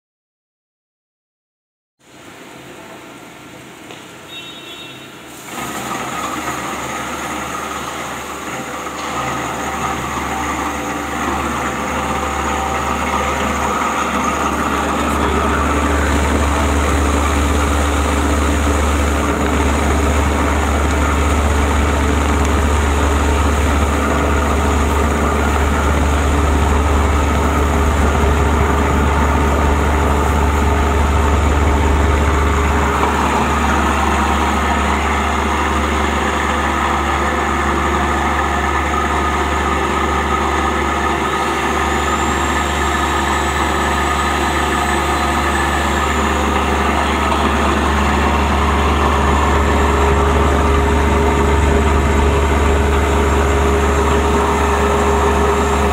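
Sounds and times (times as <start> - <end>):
plastic shredding machine humming: 2.1 - 55.9.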